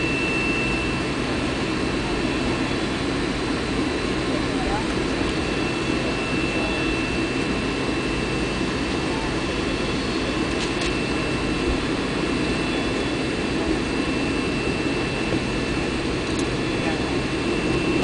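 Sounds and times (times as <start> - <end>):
airliner engines rumbling with whine: 0.0 - 18.0.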